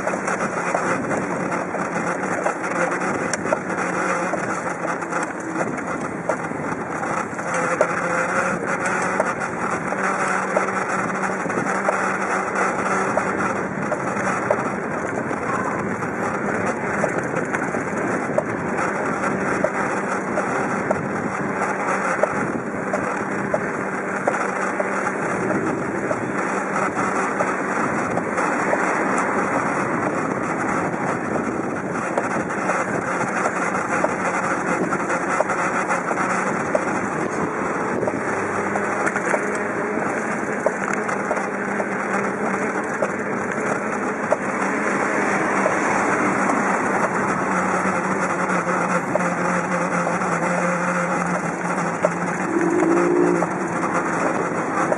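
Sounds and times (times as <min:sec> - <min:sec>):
small ticks and rattles: 0:00.0 - 0:54.9
wind noise on microphone: 0:00.0 - 0:54.9.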